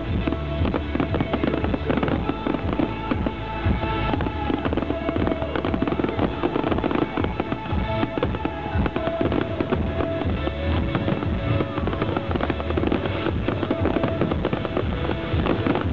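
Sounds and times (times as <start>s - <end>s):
fireworks bangs and crackles: 0.0s - 15.9s
loud music: 0.0s - 15.9s.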